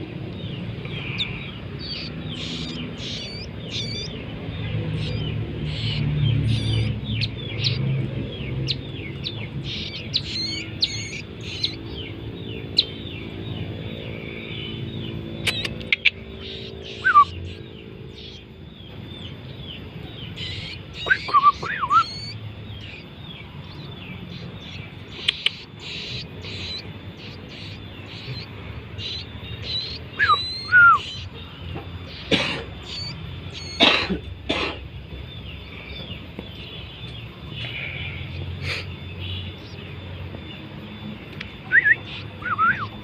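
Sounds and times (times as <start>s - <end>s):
bird chirping high calls: 0.0s - 43.0s.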